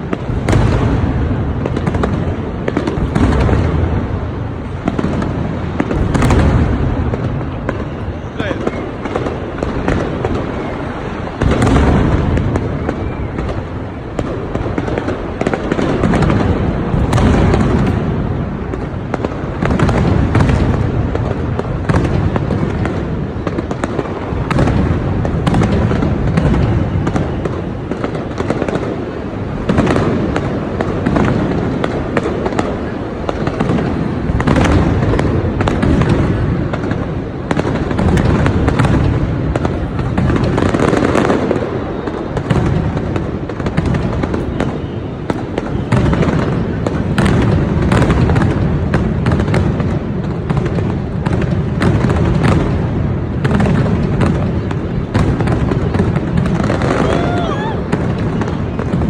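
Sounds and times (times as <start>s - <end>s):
firework crackle: 0.0s - 59.0s
firework shell booms: 0.0s - 59.0s.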